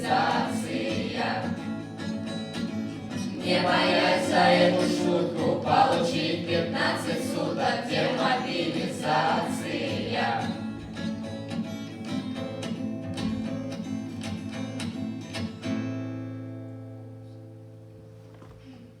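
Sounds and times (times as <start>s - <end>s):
acoustic guitar strumming: 0.0s - 18.6s.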